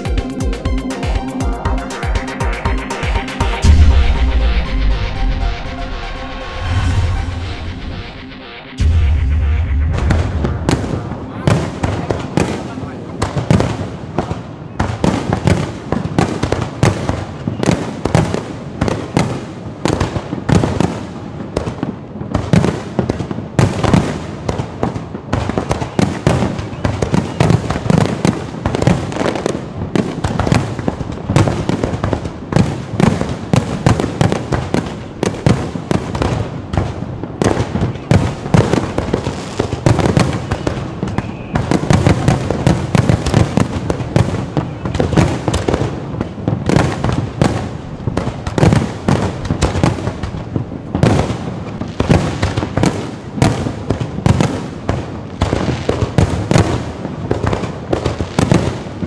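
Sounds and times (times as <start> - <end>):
firecrackers banging and crackling: 0.0 - 59.0
deep firework booms: 3.5 - 59.0.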